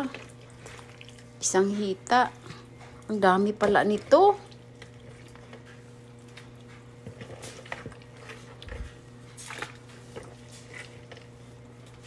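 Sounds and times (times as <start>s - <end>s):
wet squishing of raw meat: 0.0s - 3.1s, 3.9s - 12.0s
steady low hum: 0.0s - 12.0s.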